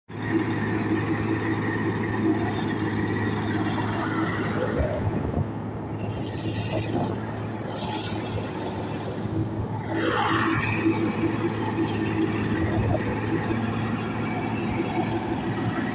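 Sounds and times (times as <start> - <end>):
combine harvester droning: 0.1 - 15.9.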